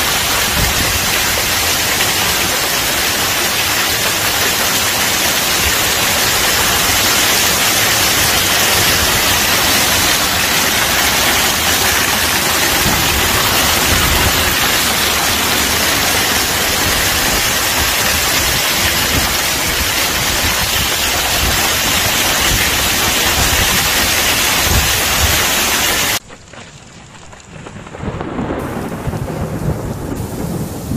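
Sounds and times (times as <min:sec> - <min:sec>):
hail and rain falling hard: 0:00.0 - 0:30.9.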